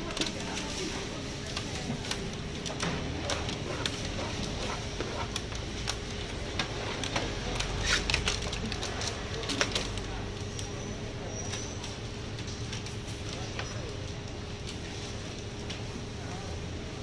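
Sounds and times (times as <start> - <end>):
background stall noise: 0.0 - 17.0.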